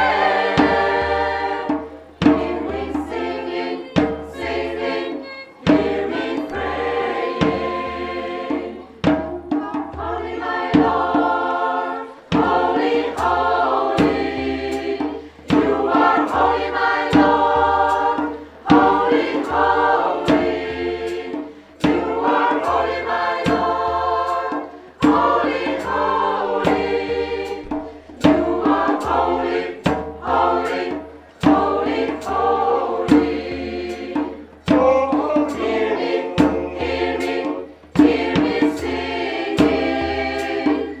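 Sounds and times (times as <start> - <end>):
mixed choir singing: 0.0 - 41.0.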